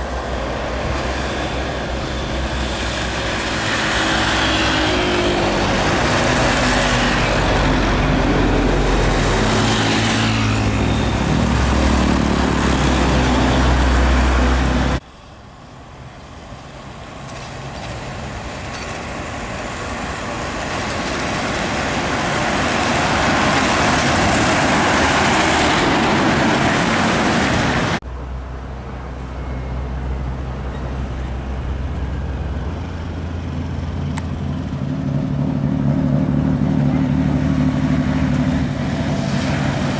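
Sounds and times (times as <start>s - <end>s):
diesel truck engine drone: 0.0s - 20.5s, 27.8s - 39.9s.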